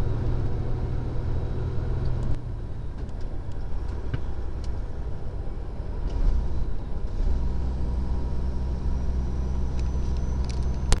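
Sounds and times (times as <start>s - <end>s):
road noise: 0.0s - 11.0s
truck diesel engine droning: 0.0s - 11.0s.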